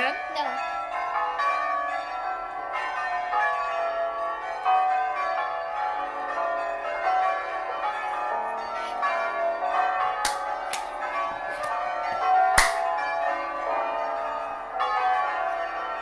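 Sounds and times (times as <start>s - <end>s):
tower bells ringing a slow tune: 0.0s - 16.0s.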